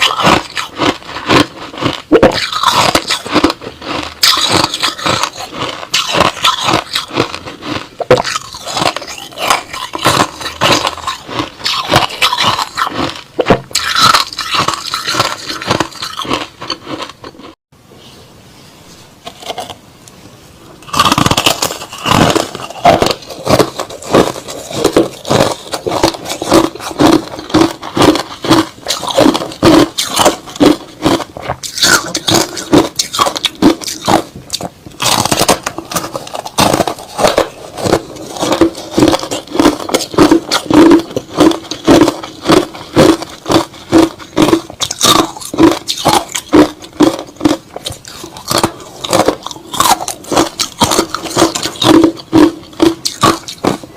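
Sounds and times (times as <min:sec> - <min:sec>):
person chewing crushed ice: 0:00.0 - 0:17.6, 0:19.3 - 0:19.8, 0:20.8 - 0:53.9.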